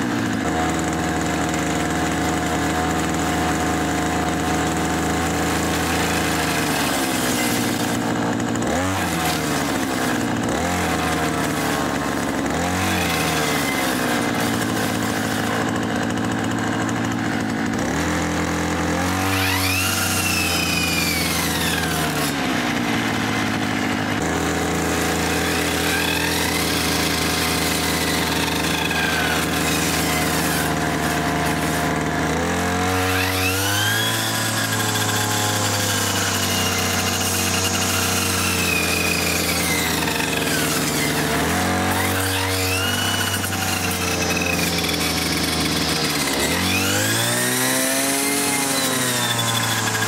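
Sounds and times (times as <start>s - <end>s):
string trimmer engine revving: 0.0s - 50.0s.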